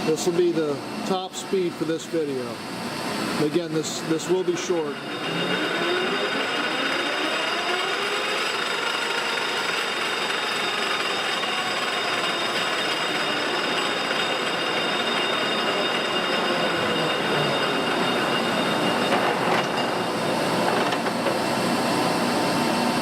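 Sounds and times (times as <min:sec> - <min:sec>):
lathe spinning with gear whine: 0:00.0 - 0:23.0.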